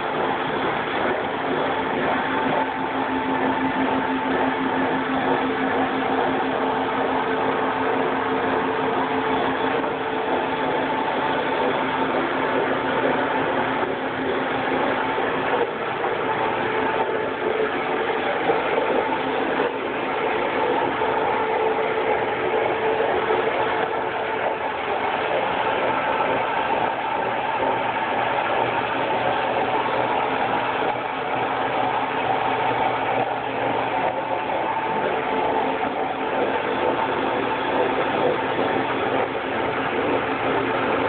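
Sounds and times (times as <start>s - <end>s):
mechanical hum: 0.0s - 41.0s
suction rushing through hose: 0.0s - 41.0s.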